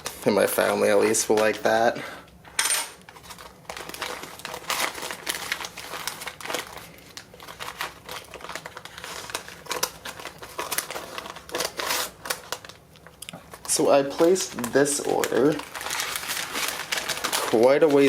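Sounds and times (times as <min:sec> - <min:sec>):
packaging crinkling by hand: 0:00.0 - 0:02.4, 0:03.0 - 0:18.0.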